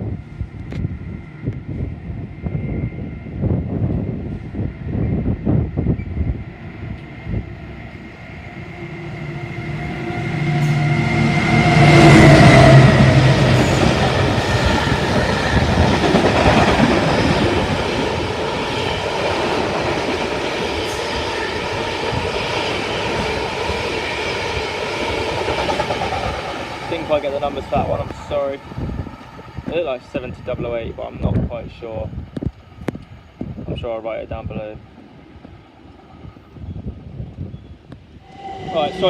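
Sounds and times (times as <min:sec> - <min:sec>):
diesel locomotive engine passing: 0:00.0 - 0:37.4, 0:38.0 - 0:39.0.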